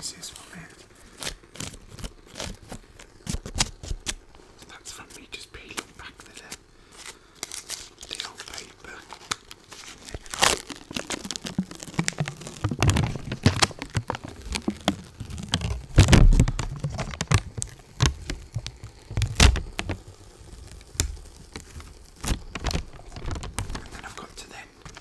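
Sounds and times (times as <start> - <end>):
adhesive sheet peeling off lint roller: 0.7 - 4.3, 5.8 - 24.2.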